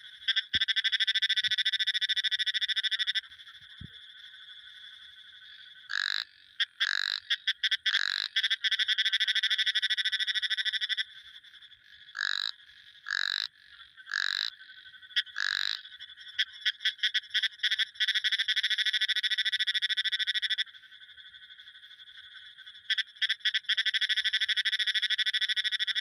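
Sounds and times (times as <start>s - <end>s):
fast pulsed frog trill: 0.0s - 3.8s, 4.8s - 21.4s, 22.8s - 26.0s
frog chorus: 0.0s - 26.0s
frogs calling: 0.0s - 26.0s.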